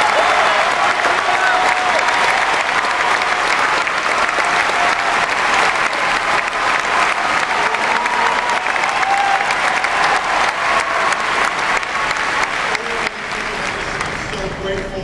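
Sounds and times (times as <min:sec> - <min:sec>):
cheering voices: 0:00.0 - 0:14.8
crowd applauding: 0:00.0 - 0:14.9.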